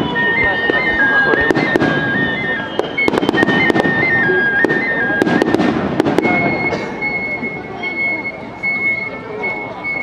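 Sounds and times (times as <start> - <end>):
fireworks bangs and crackles: 0.0 - 8.2.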